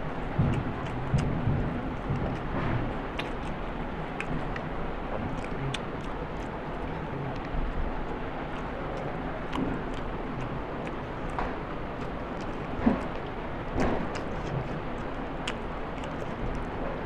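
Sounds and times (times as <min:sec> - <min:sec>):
steady background noise: 0:00.0 - 0:17.0
person chewing: 0:00.2 - 0:17.0.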